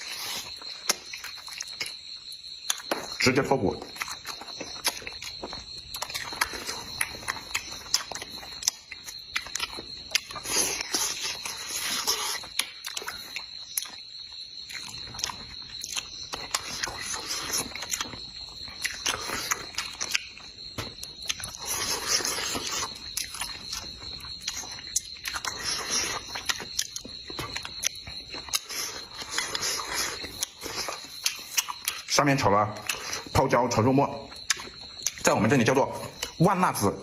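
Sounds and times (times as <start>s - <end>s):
chewing and lip smacking: 0.0s - 33.4s, 34.2s - 36.5s
high-pitched insect drone: 0.0s - 37.0s.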